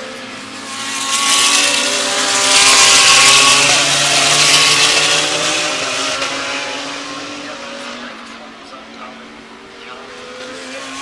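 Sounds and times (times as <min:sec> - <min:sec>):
race car passing by: 0:00.0 - 0:11.0.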